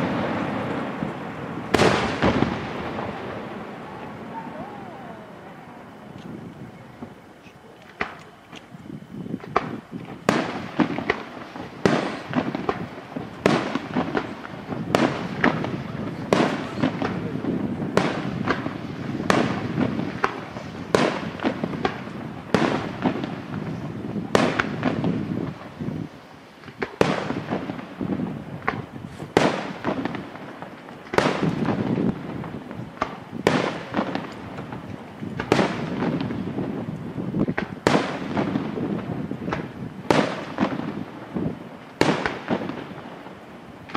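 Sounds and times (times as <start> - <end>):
firework shells bursting: 0.0 - 43.9.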